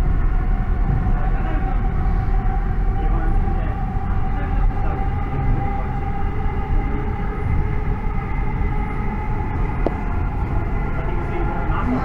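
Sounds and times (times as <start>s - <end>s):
constant train whine: 0.0s - 12.0s
wheels rumbling on rail: 0.0s - 12.0s.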